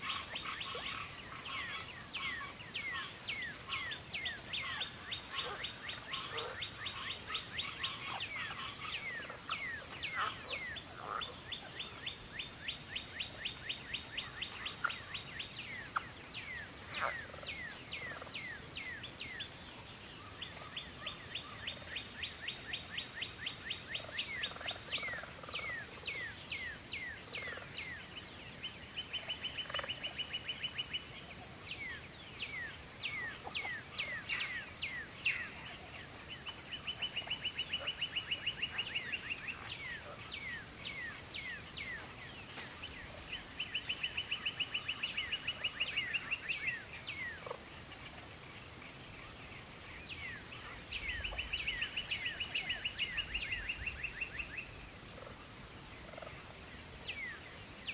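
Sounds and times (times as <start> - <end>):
crickets chirping: 0.0 - 57.9.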